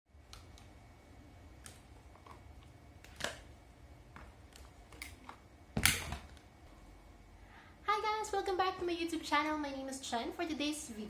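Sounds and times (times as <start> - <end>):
low steady hum: 0.1 - 11.0.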